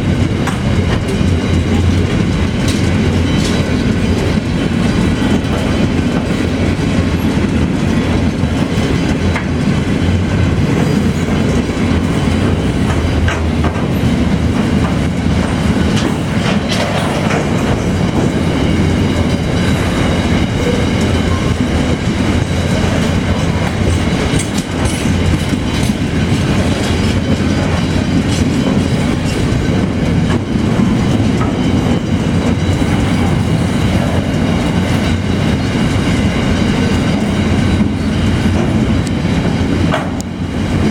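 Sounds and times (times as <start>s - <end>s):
freight train rumbling past: 0.0s - 40.9s
wheels clicking over rail joints: 0.2s - 40.9s.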